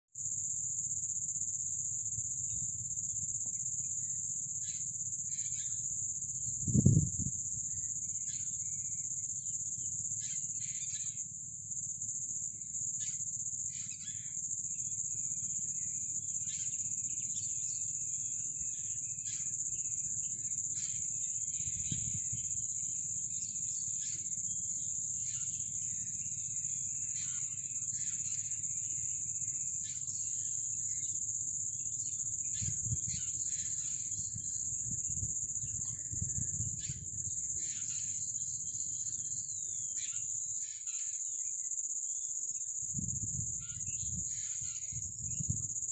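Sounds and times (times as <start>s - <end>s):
insect drone: 0.1s - 45.9s.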